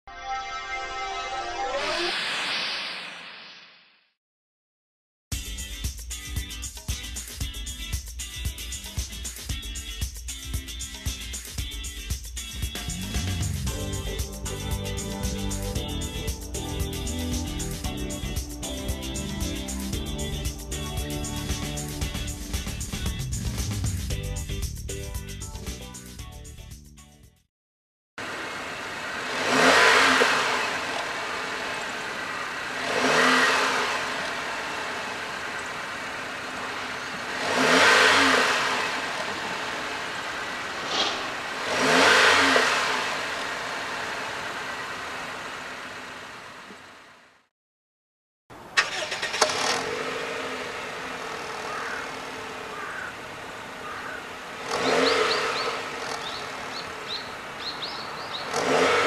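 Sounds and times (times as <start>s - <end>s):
car engine idling and revving: 6.2s - 25.0s, 28.2s - 47.5s, 48.8s - 59.0s.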